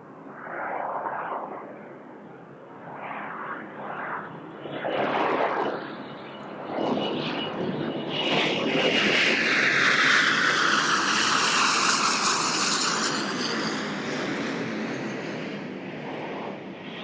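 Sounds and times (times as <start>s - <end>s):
jet engine whine: 0.0s - 17.0s
jet plane passing: 0.0s - 17.0s.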